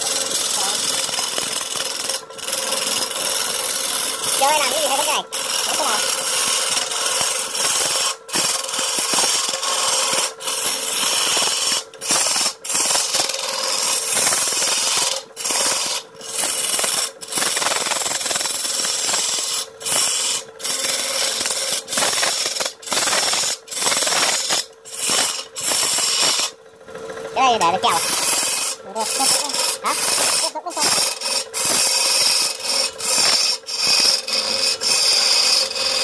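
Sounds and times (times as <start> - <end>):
sandpaper scraping spinning wood: 0.0 - 26.6, 27.2 - 36.0
lathe motor hum: 0.0 - 36.0.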